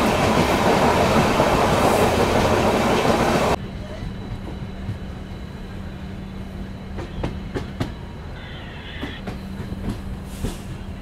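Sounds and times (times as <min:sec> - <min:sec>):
train coach rumble and hum: 0:00.0 - 0:11.0.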